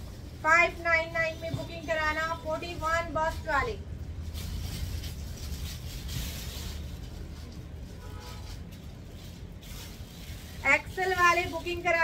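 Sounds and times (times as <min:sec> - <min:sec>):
garments rustling: 0:01.9 - 0:12.0.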